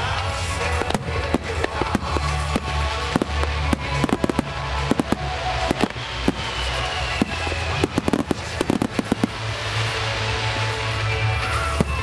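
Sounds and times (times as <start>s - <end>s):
music: 0.0s - 12.0s
fireworks shells bursting: 0.6s - 10.8s.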